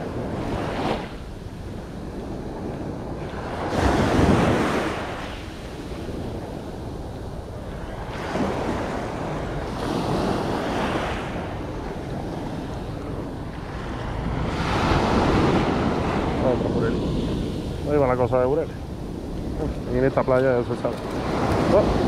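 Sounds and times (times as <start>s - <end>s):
sea waves breaking on shore: 0.0s - 22.0s
wind rumbling on microphone: 0.0s - 22.0s.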